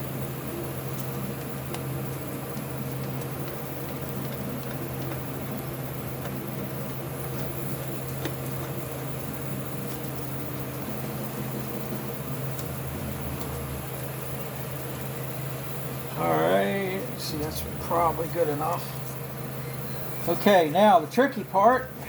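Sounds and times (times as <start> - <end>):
low mechanical motor hum: 0.0 - 22.0.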